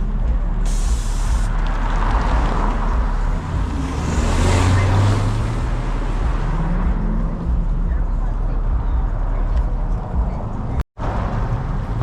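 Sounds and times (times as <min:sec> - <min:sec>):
car engine and exhaust rumbling: 0:00.0 - 0:12.0.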